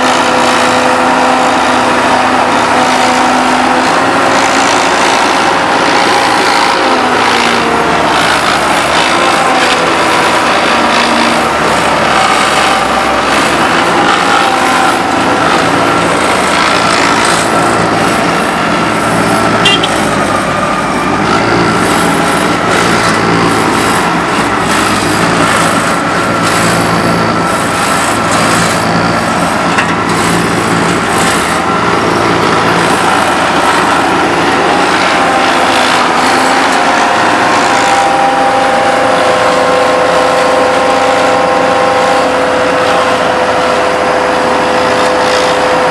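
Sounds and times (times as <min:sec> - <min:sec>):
diesel paving machinery running: 0:00.0 - 0:45.9
machine whine: 0:00.0 - 0:45.9.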